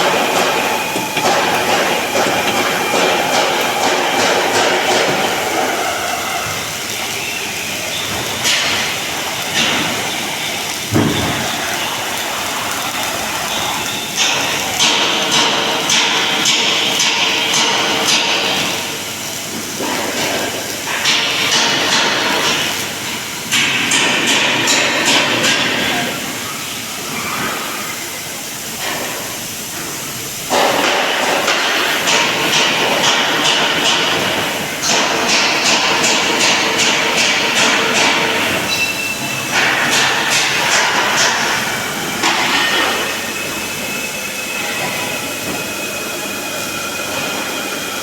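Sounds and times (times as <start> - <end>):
arc welding crackling hiss: 0.0 - 48.0.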